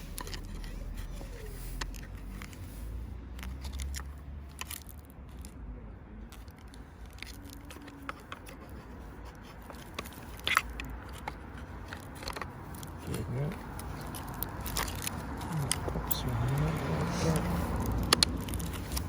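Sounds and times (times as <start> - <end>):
plastic parts clicking and scraping: 0.0 - 5.6, 6.2 - 19.0.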